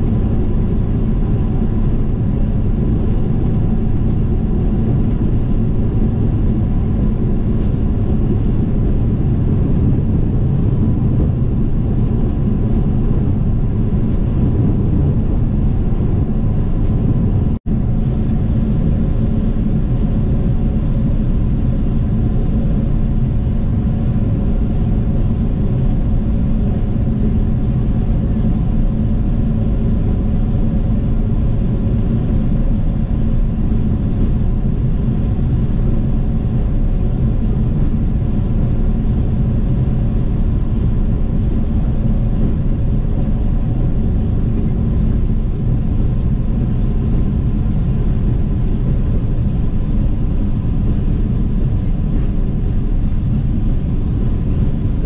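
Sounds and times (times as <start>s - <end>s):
vehicle engine and tyre noise: 0.0s - 55.0s.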